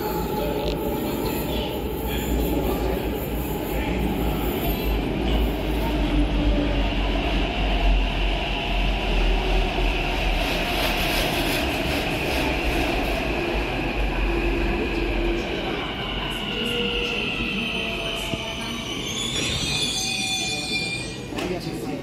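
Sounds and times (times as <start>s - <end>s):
metro train wheels on rails: 0.0s - 22.0s.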